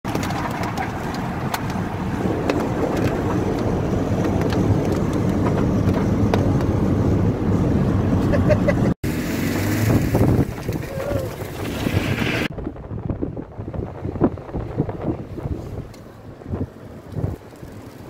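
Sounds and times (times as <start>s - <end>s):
car road and engine noise: 0.0s - 18.0s.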